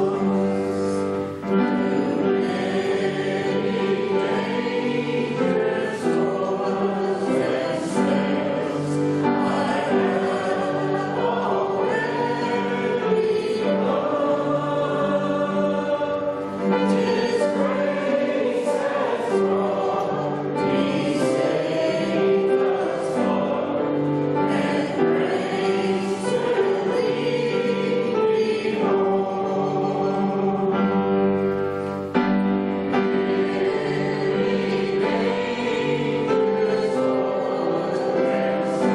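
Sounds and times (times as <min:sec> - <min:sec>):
congregation singing a hymn: 0:00.0 - 0:38.9
musical accompaniment: 0:00.0 - 0:38.9.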